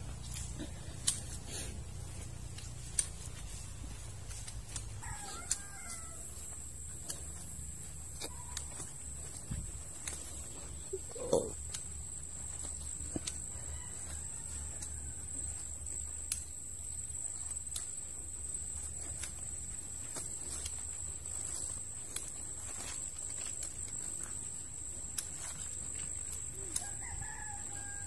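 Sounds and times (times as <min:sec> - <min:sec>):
crutches tapping on dirt: 0:00.0 - 0:28.0
footsteps on dirt path: 0:00.0 - 0:28.0.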